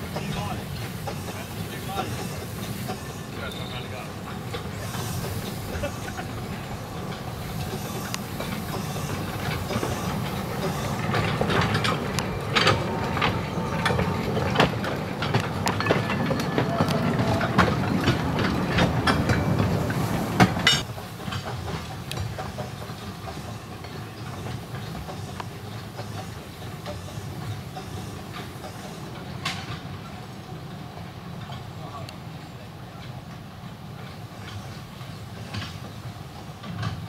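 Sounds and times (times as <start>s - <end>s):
steam locomotive running past: 0.0s - 37.0s
wheels clicking over rail joints: 0.0s - 37.0s.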